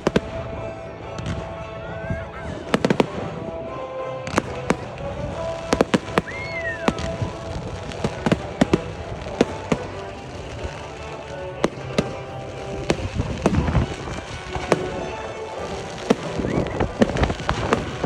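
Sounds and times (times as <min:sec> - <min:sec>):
firework whistle: 0:00.0 - 0:18.0
fireworks bangs: 0:00.0 - 0:18.0
music playing: 0:00.0 - 0:18.0.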